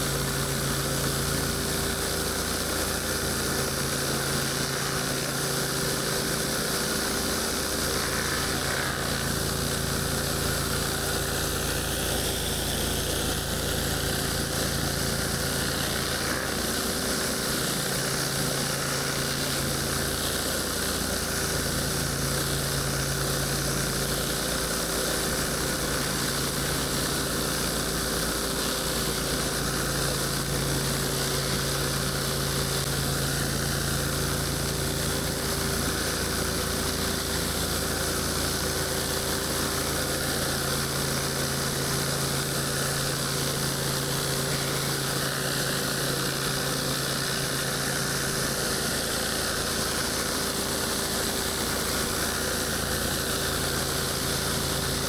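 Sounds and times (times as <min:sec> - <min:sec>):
pressure washer engine running: 0:00.0 - 0:55.0.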